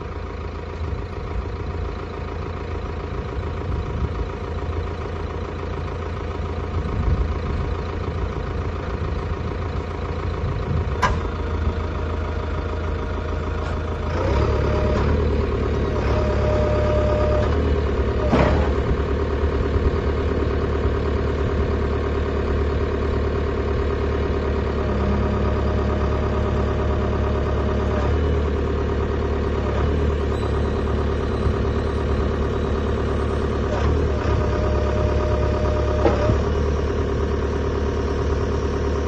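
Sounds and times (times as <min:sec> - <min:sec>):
backhoe loader engine running: 0:00.0 - 0:39.0.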